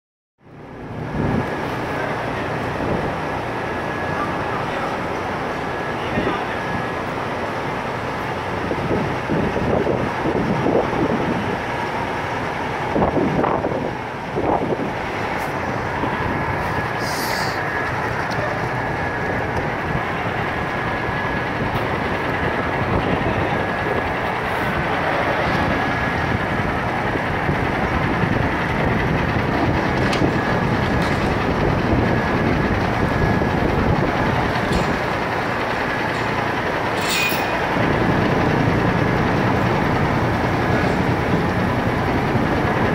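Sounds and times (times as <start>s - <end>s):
tractor engine running: 0.4s - 42.9s.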